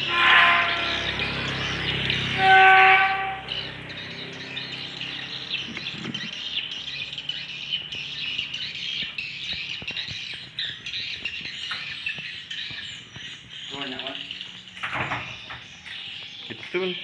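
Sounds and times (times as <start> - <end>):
swiftlets chirping and twittering: 0.0 - 17.0.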